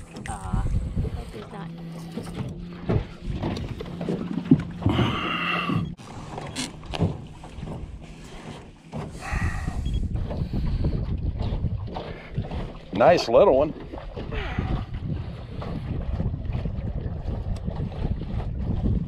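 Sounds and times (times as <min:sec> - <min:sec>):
wind buffeting microphone: 0:00.0 - 0:06.0, 0:06.8 - 0:19.0
water slapping boat hull: 0:00.0 - 0:19.0.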